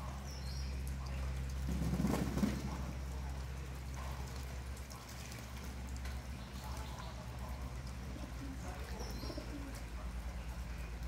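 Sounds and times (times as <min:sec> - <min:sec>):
pigeons splashing in water: 0:00.0 - 0:11.0.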